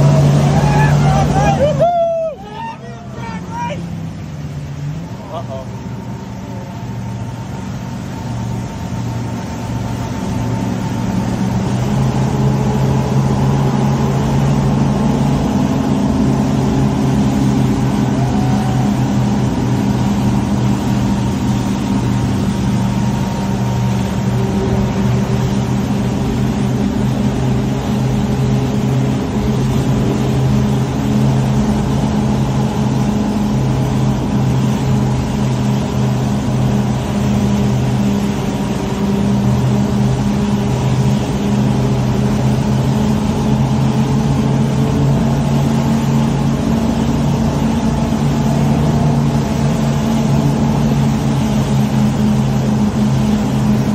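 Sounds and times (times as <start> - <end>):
motorboat engines droning: 0.0 - 53.9
water rushing along hull: 0.0 - 53.9.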